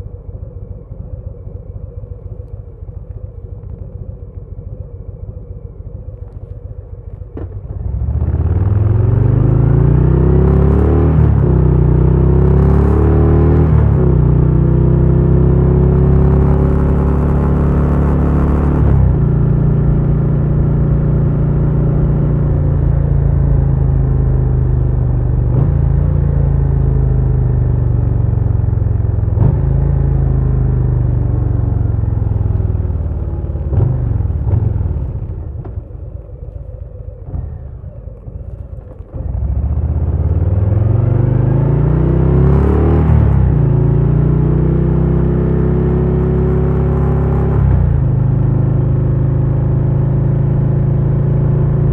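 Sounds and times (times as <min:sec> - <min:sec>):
motorcycle engine running: 0:05.3 - 0:51.9.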